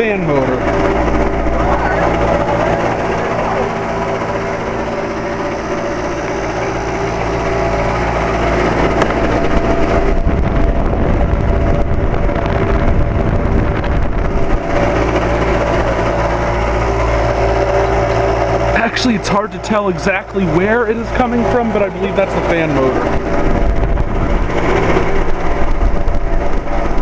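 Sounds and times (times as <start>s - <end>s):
air conditioner unit humming: 0.0s - 27.0s
odd fan motor noise: 0.0s - 27.0s.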